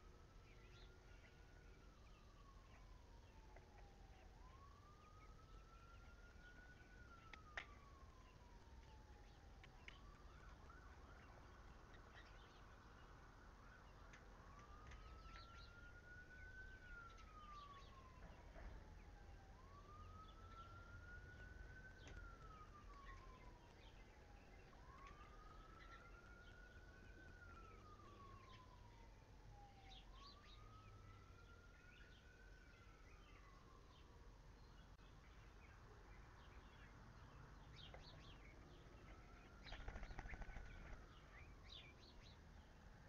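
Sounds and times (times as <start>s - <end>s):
faint siren wailing: 0.0s - 43.0s.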